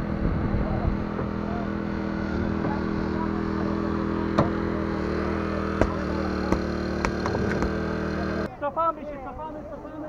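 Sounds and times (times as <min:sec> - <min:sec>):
small petrol engine running: 0:00.0 - 0:08.5.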